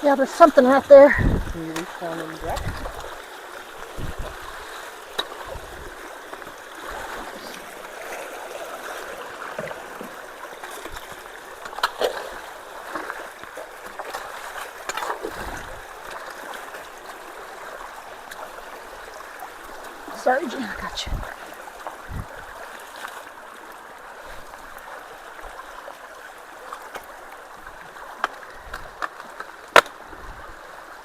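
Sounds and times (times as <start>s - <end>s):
water rushing through culvert: 0.0s - 31.0s
water splashes: 0.0s - 31.0s.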